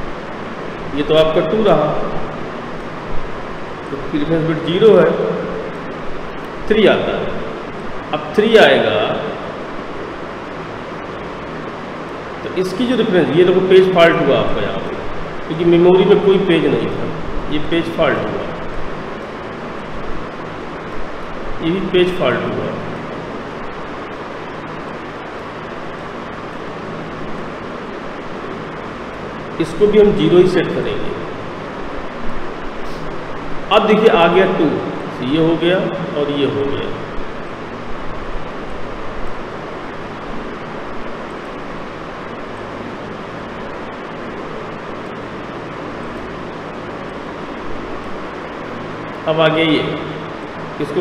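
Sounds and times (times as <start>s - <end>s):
faint low hum: 0.0s - 51.0s
steady hiss and rumble: 0.0s - 51.0s.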